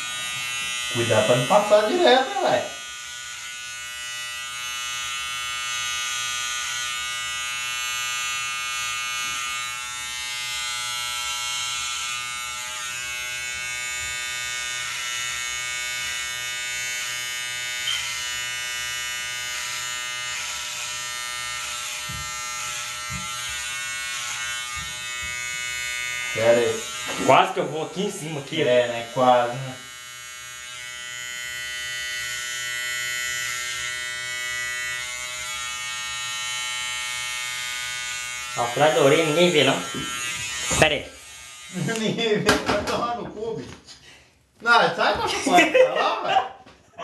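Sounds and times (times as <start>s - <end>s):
electric hair clippers buzzing: 0.0s - 42.6s.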